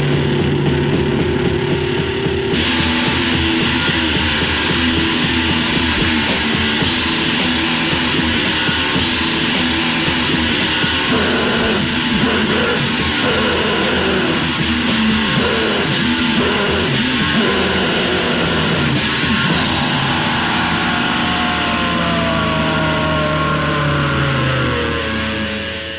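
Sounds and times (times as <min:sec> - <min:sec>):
distorted electric guitars: 0:00.0 - 0:25.9.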